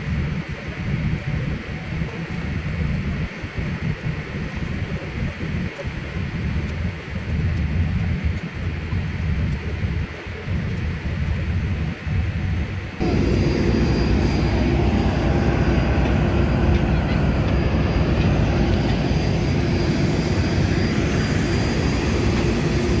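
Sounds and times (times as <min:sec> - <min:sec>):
jet aircraft rumble and whine: 0:00.0 - 0:23.0
muffled aircraft cabin rumble: 0:00.0 - 0:23.0.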